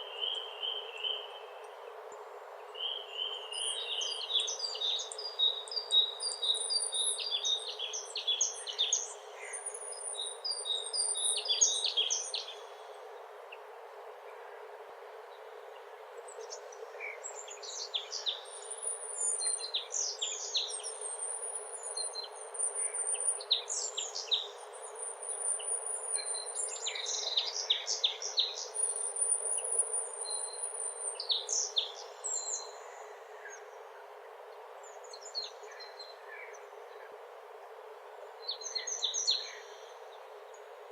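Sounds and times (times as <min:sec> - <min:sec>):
outdoor ambience hiss: 0:00.0 - 0:40.9
songbirds chirping and trilling: 0:00.0 - 0:40.9.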